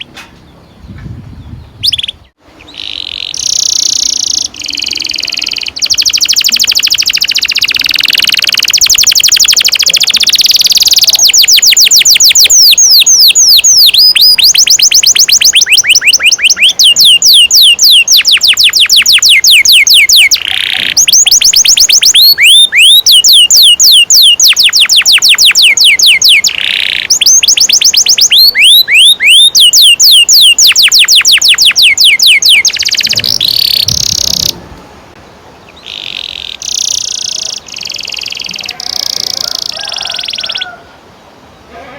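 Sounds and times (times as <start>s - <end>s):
canary singing trills: 0.0s - 34.6s, 35.7s - 40.9s.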